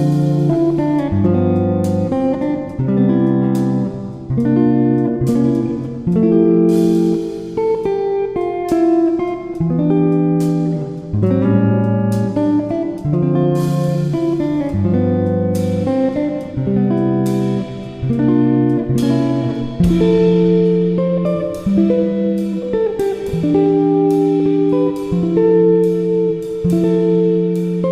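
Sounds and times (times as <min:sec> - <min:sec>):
guitar chords plucked: 0:00.0 - 0:27.9.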